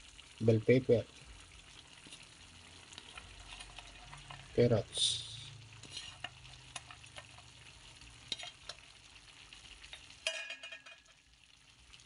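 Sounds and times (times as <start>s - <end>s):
sauce sizzling in a pan: 0.0s - 12.0s.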